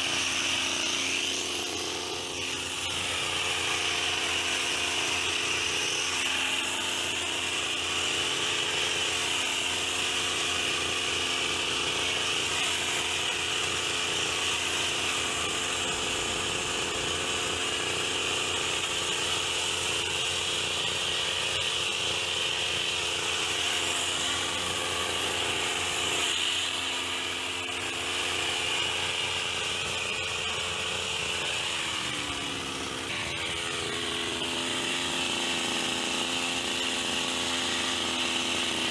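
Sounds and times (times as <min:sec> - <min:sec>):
hedge trimmer engine running: 0:00.0 - 0:38.9.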